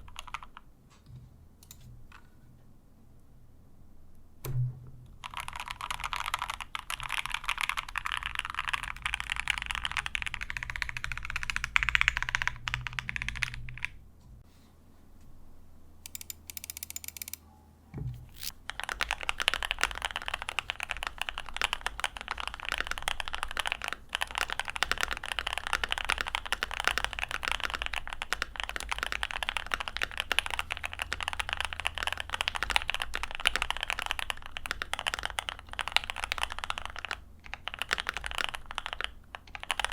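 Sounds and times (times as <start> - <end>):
fast keyboard typing: 0.0 - 0.6, 5.2 - 14.0, 16.1 - 17.4, 18.4 - 39.9.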